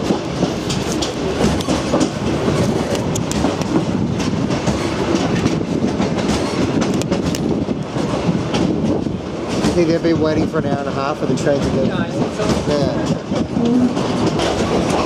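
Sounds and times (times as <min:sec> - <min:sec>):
rail joints clicking and rattling: 0:00.0 - 0:15.0
train wheels rumbling on track: 0:00.0 - 0:15.0.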